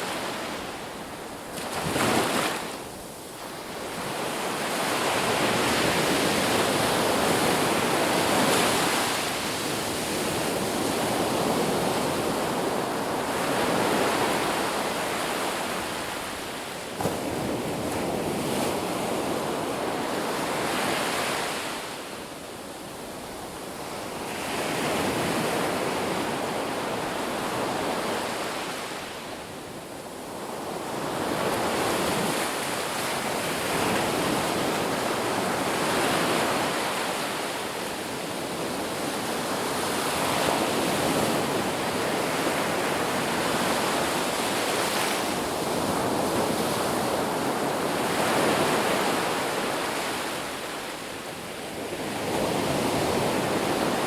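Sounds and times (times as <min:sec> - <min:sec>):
ocean surf on a beach: 0:00.0 - 0:54.0.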